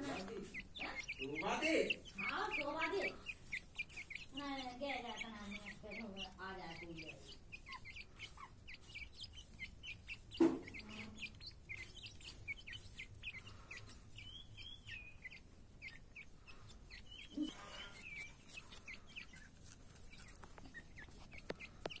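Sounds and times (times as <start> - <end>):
chicks peeping: 0.0 - 22.0.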